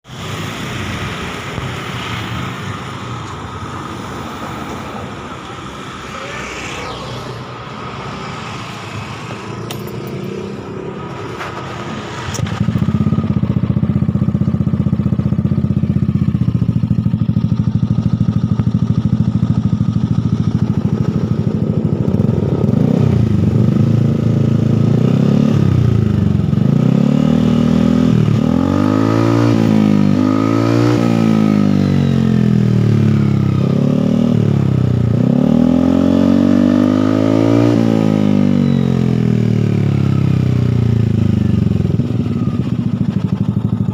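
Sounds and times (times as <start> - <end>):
scooter engine revving: 5.1 - 43.9.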